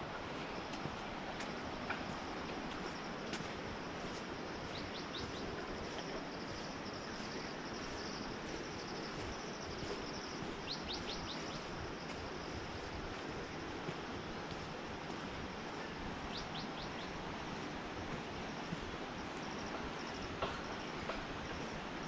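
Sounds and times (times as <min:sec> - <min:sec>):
steady rushing hiss: 0:00.0 - 0:22.0.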